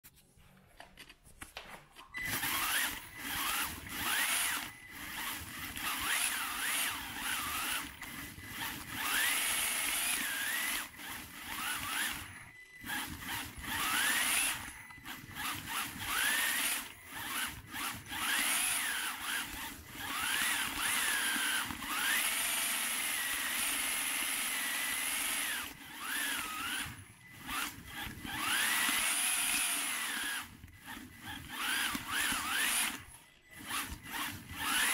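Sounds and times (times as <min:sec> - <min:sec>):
small electric motor whining: 0:02.2 - 0:34.9.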